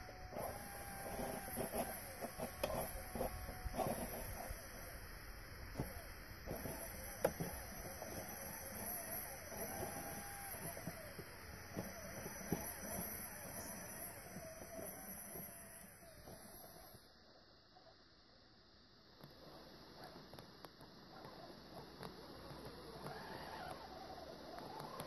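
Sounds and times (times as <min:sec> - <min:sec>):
small electric motor whine: 0:00.0 - 0:17.1, 0:21.2 - 0:25.0.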